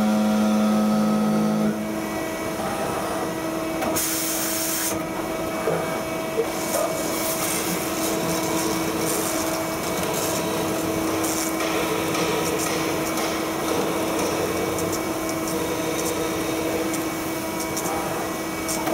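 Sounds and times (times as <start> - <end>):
coolant hiss and cutting noise: 0.0 - 18.9.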